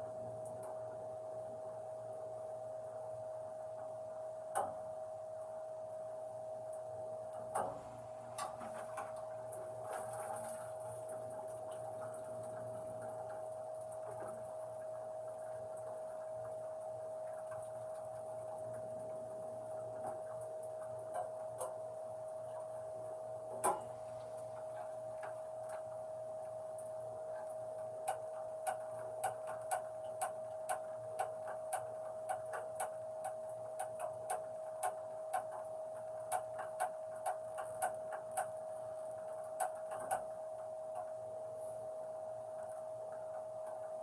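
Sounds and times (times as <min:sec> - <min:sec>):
steady high hum: 0:00.0 - 0:44.0.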